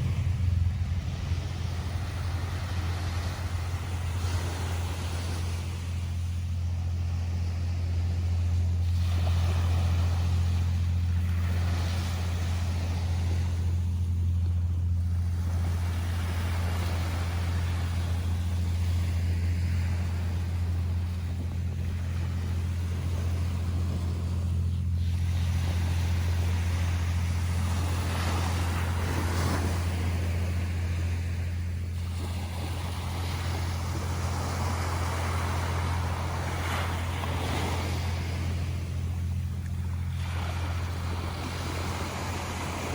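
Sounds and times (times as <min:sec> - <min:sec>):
ocean waves washing onto beach: 0:00.0 - 0:42.9
steady low hum: 0:00.0 - 0:42.9.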